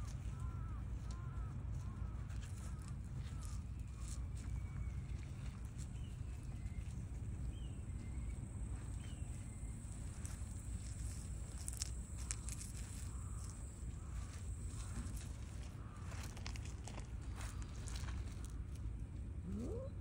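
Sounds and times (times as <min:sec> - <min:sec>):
gravel shifting clicks: 0:00.0 - 0:19.6.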